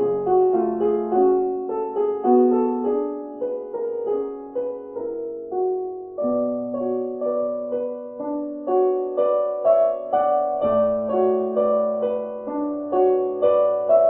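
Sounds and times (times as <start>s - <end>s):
slow solo piano piece: 0.0s - 14.0s.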